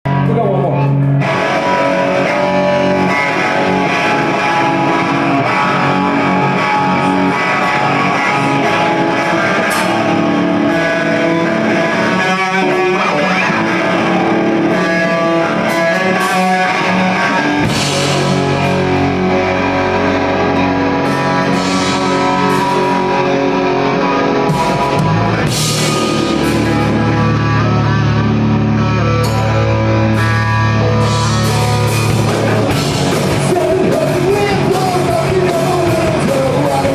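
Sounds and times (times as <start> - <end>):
rock band playing instrumental: 0.1 - 36.9.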